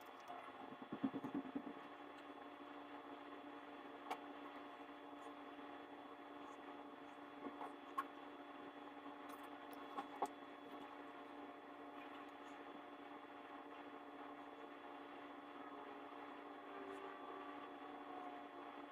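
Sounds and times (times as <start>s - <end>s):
faint electrical hum: 0.0s - 18.9s.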